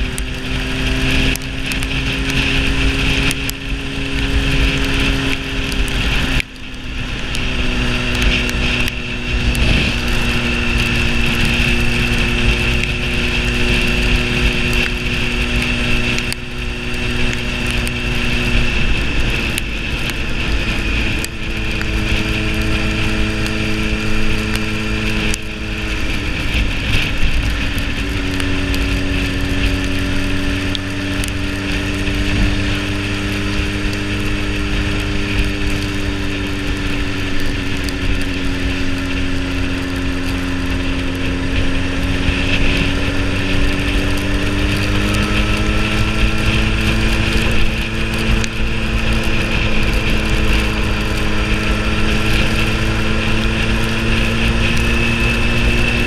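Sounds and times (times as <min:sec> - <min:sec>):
motorcycle engine running: 0:00.0 - 0:56.0
wind rush and road noise: 0:00.0 - 0:56.0.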